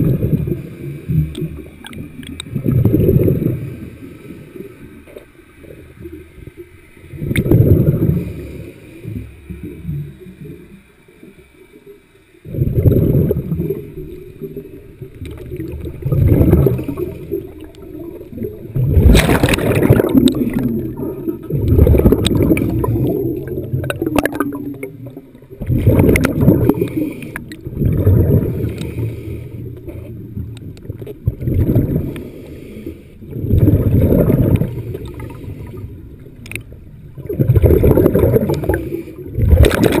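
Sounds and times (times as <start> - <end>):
underwater bubbling rush: 0.0 - 11.7, 12.4 - 40.0
muffled underwater water churning: 0.0 - 40.0.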